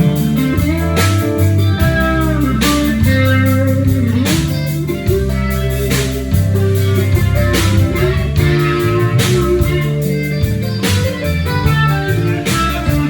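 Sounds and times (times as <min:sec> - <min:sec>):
electric guitar bent notes: 0:00.0 - 0:13.0
rock band playing: 0:00.0 - 0:13.0.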